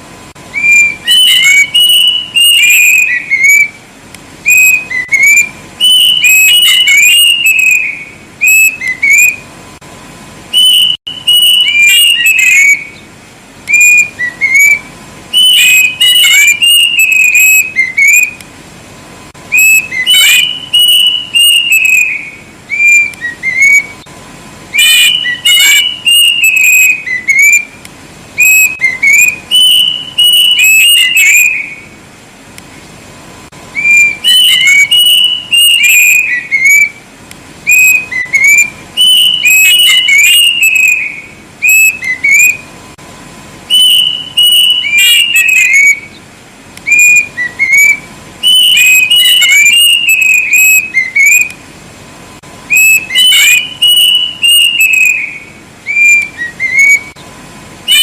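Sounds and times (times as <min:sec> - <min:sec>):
cuckoo whistled song: 0:00.4 - 0:03.8, 0:04.4 - 0:09.5, 0:10.5 - 0:18.5, 0:19.5 - 0:24.1, 0:24.7 - 0:32.0, 0:33.7 - 0:37.0, 0:37.6 - 0:42.7, 0:43.7 - 0:46.2, 0:46.8 - 0:51.6, 0:52.6 - 0:57.3.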